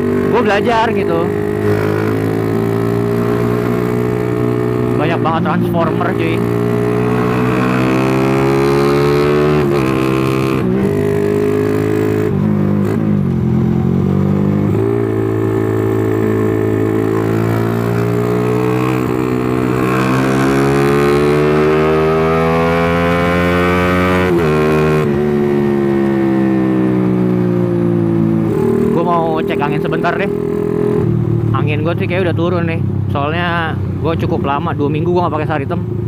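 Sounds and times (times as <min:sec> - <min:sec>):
motorcycle engine revving through gears: 0:00.0 - 0:31.6.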